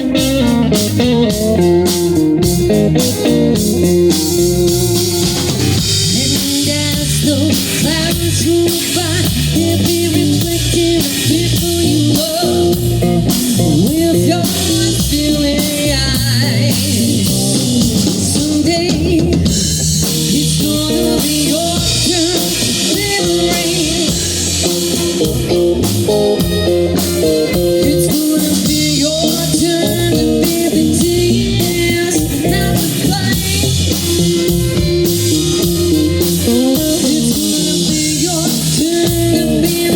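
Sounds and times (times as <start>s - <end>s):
blues band playing: 0.0s - 39.9s
electric guitar: 0.0s - 39.9s.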